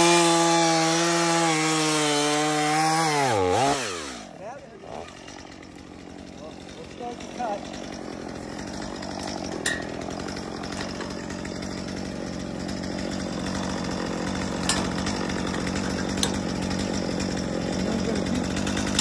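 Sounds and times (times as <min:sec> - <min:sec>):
chainsaw idling: 0:00.0 - 0:19.0.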